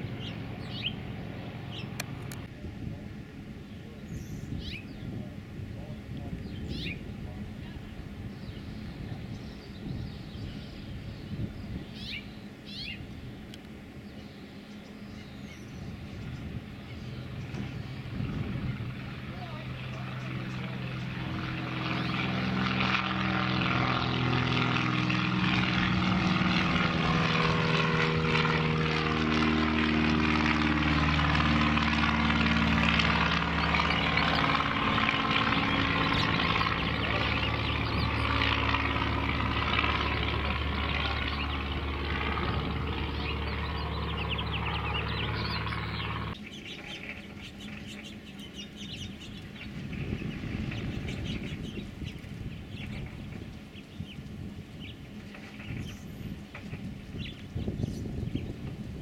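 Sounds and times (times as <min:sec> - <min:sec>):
propeller plane engine running: 0:00.0 - 0:59.0.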